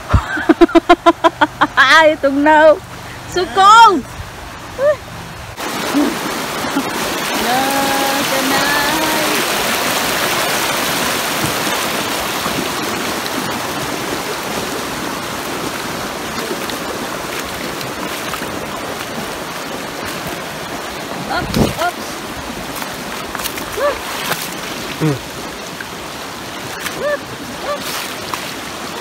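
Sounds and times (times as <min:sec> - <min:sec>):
river flowing over rocks: 0:02.0 - 0:29.0.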